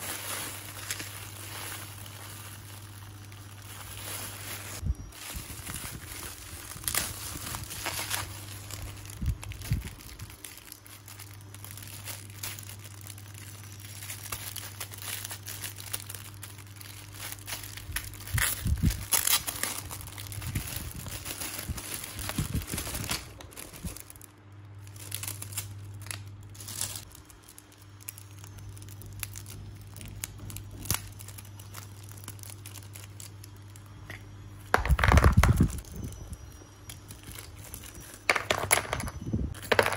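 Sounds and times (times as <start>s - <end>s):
plastic bags crinkling: 0.0s - 39.9s
steady low hum: 0.0s - 39.9s.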